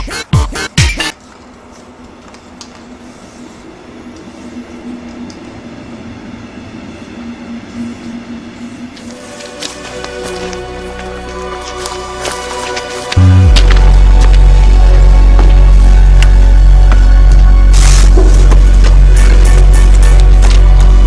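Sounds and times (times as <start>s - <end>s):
train rumbling on rails: 1.0s - 21.0s.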